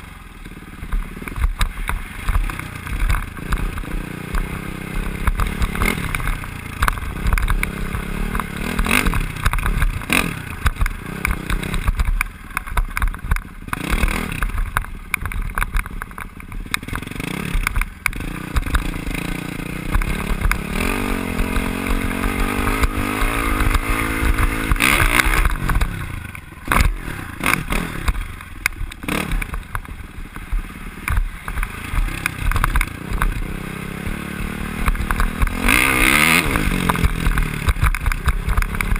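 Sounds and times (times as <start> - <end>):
dirt bike engine revving: 0.0 - 12.2, 12.9 - 16.0, 16.6 - 38.9
knocks from bumps: 0.9 - 38.9.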